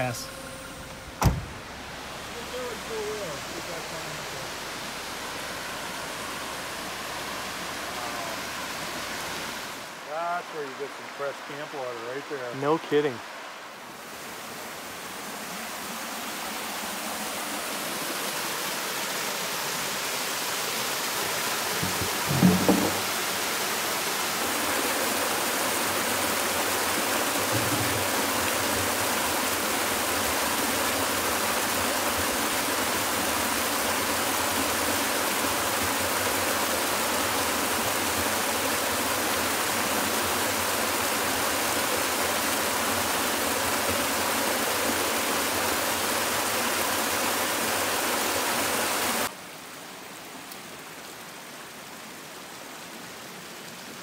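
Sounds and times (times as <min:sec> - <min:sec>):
waterfall splashing over rock: 0:01.7 - 0:49.4
creek trickling over stones: 0:01.8 - 0:54.0.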